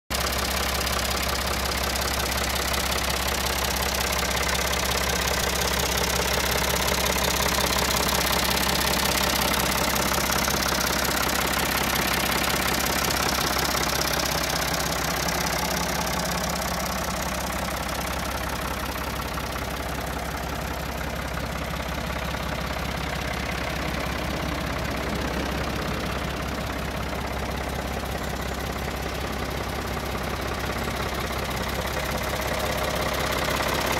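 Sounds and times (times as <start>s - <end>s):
tractor diesel engine idling: 0.1s - 33.9s.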